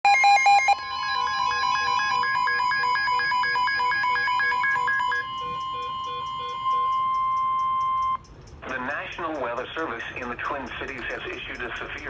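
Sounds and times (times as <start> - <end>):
electronic alarm beeping: 0.0 - 12.0
steady high alert tone: 0.0 - 12.0.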